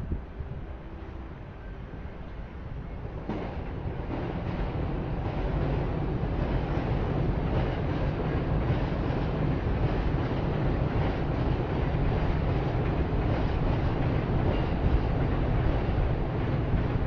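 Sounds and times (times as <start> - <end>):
low rumble of city noise: 0.0 - 17.0
wind buffeting microphone: 0.0 - 17.0.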